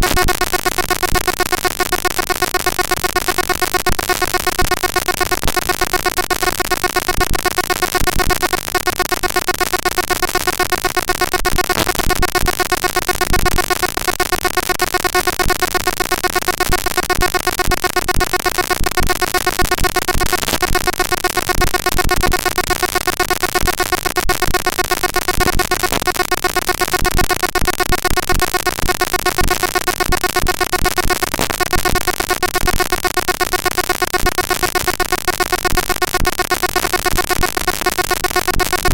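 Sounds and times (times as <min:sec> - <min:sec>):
harsh buzzing digital noise: 0:00.0 - 0:38.9
rapid clicks: 0:00.0 - 0:38.9.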